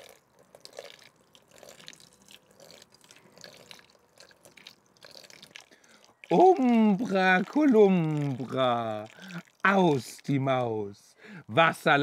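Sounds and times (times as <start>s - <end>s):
water pouring into bucket: 0.0s - 10.4s.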